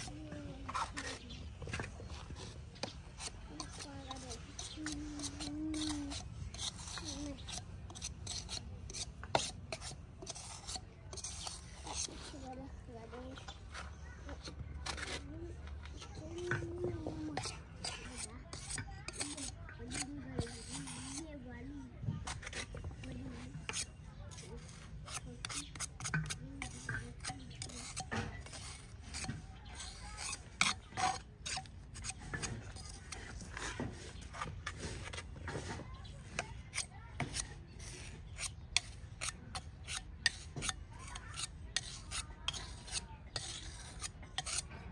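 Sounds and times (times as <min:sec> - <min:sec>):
wet cement scraping: 0:00.0 - 0:44.9.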